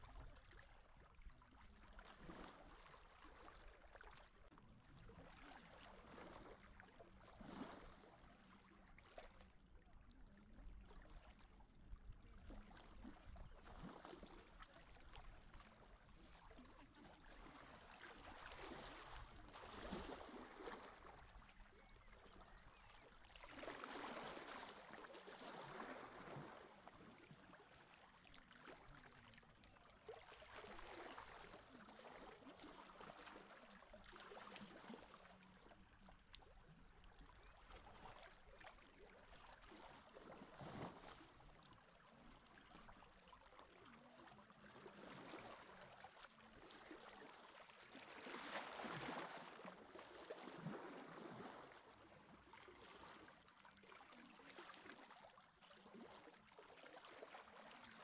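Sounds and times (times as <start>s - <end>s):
faint lapping of sea water: 0.0s - 58.0s.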